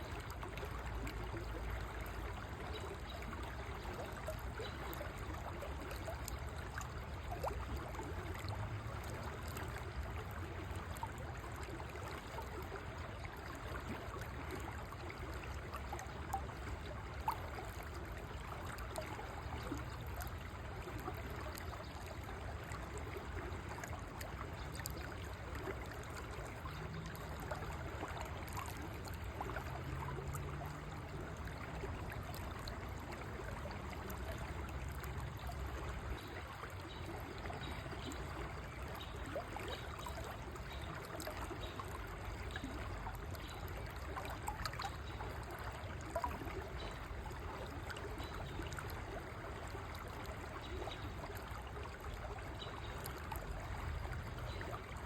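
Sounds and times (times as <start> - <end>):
river water babbling over stones: 0.0 - 55.0.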